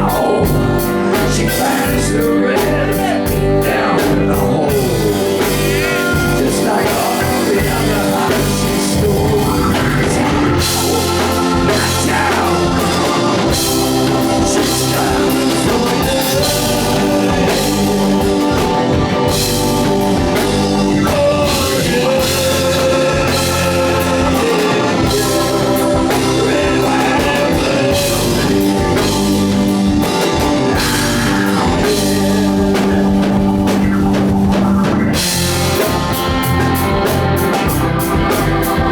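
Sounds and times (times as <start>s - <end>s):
bass guitar: 0.0s - 38.9s
drum kit: 0.0s - 38.9s
electric guitar: 0.0s - 38.9s
person singing: 0.0s - 38.9s.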